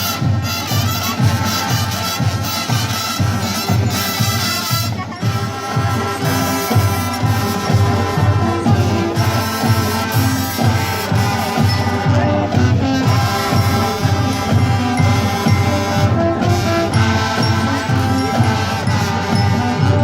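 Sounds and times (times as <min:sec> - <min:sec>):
brass sustained chords: 0:00.0 - 0:20.0
steady drum beat: 0:00.0 - 0:20.0.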